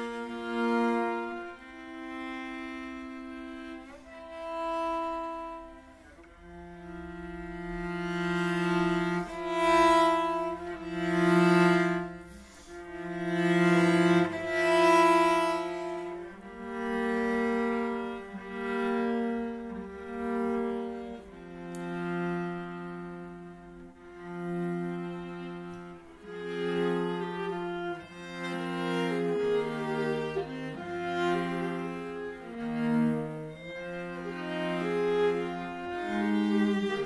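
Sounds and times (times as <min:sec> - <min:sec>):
cello and violin duet: 0:00.0 - 0:37.0.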